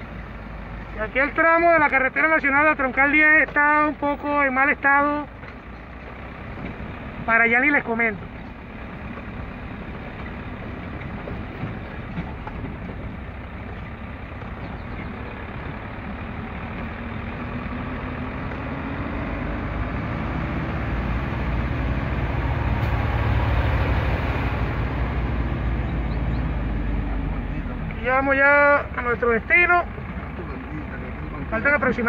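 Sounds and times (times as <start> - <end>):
road noise: 0.0 - 32.0
truck engine: 0.0 - 32.0.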